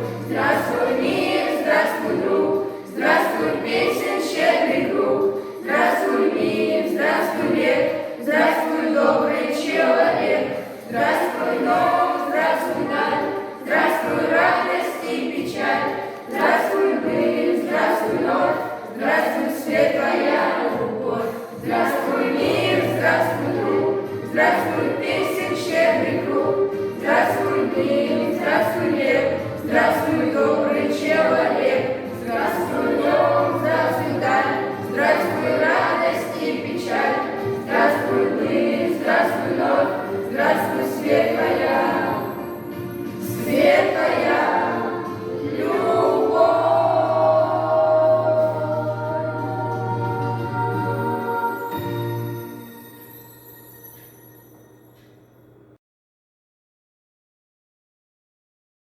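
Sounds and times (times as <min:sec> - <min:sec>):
group singing in chorus: 0:00.0 - 0:52.4.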